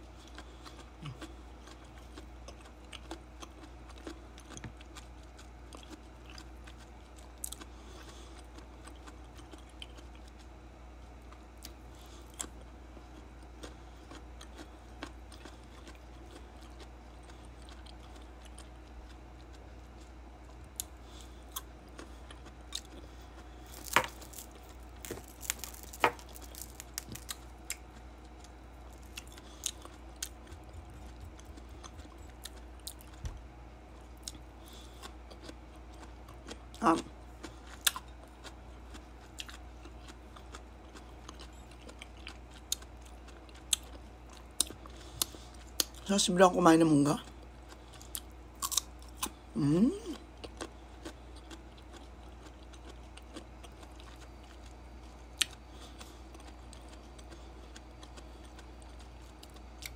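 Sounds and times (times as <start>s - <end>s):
person chewing wetly: 0.1s - 46.1s, 47.2s - 59.9s.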